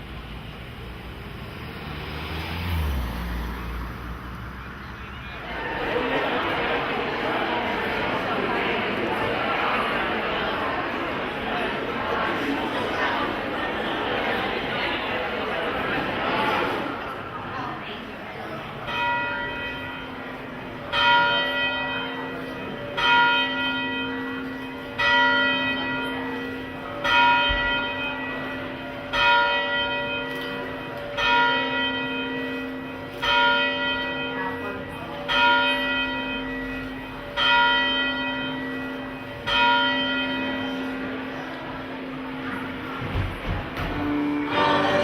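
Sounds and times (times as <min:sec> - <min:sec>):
church bell tolling: 0:05.4 - 0:17.2, 0:18.4 - 0:45.0.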